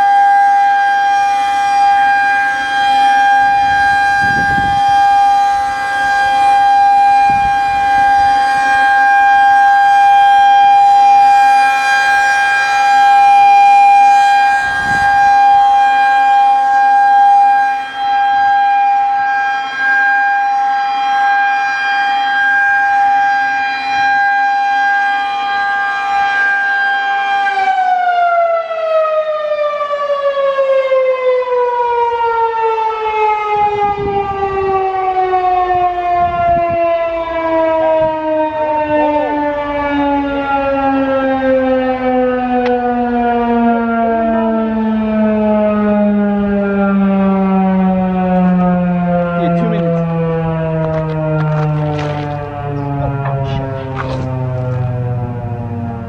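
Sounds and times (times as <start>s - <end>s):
warning siren: 0.0s - 56.0s.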